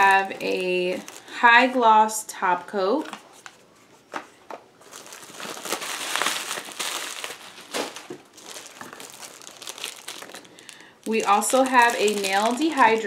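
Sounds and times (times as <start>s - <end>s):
plastic bags crinkling and rustling: 0.0s - 1.9s, 2.5s - 13.0s.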